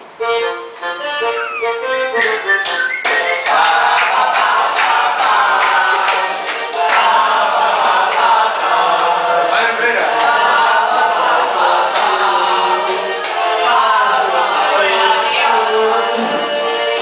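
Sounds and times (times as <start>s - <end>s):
crowd chanting: 3.1s - 17.0s.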